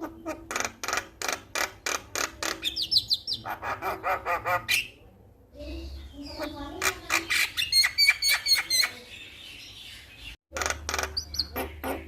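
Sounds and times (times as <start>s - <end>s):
bird harsh rasping notes: 0.0s - 12.0s.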